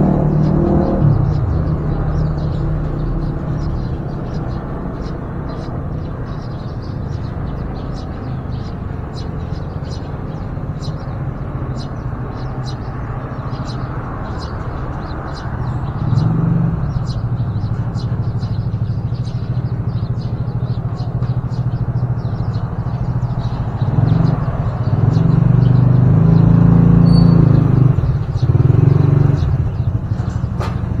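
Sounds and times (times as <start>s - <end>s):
engine humming: 0.0s - 31.0s.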